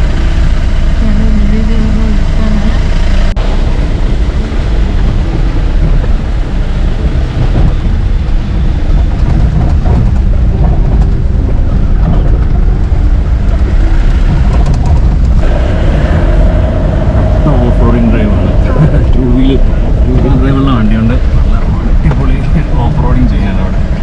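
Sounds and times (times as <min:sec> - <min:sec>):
jeep engine and road rumble: 0:00.0 - 0:24.0.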